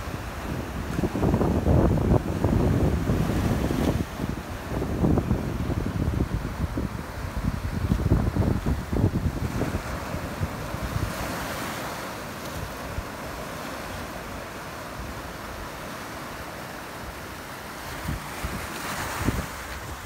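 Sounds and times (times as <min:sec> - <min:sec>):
wind buffeting microphone: 0:00.0 - 0:16.0, 0:17.8 - 0:20.0
waves on a sandy beach: 0:00.0 - 0:20.0.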